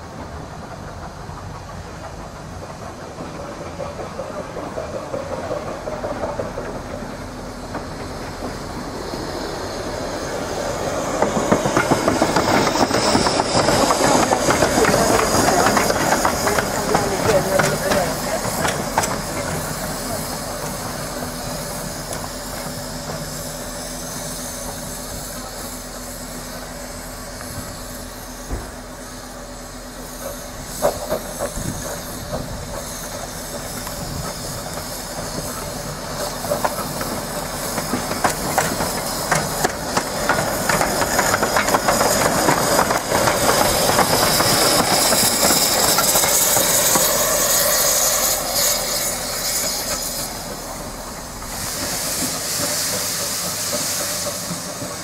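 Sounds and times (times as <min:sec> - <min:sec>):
wheels clicking over rail joints: 0:00.0 - 0:25.8, 0:30.0 - 0:55.0
steam hissing: 0:00.0 - 0:55.0
steam locomotive running: 0:00.0 - 0:55.0.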